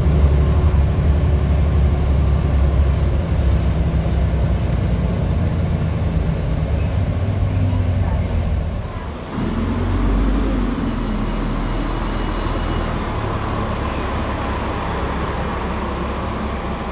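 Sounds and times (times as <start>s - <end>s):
bus diesel engine rumble: 0.0s - 16.9s
engine noise inside bus: 0.0s - 16.9s.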